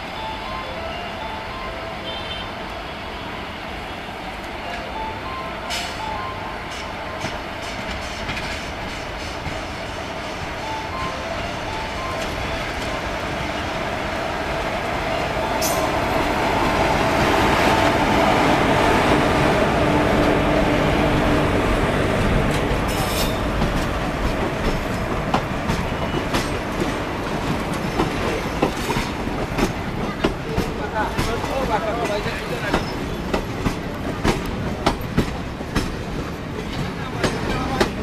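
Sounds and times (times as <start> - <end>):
electric locomotive rolling and humming: 0.0 - 38.0.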